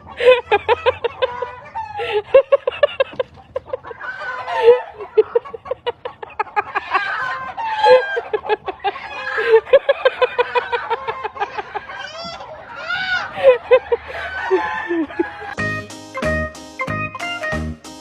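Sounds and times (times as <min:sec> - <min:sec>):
chickens calling: 0:00.0 - 0:18.0
chickens clucking: 0:00.0 - 0:18.0.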